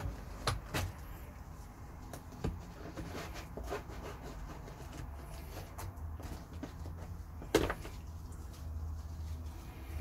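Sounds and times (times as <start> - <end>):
soft fabric rustling: 0.0 - 10.0.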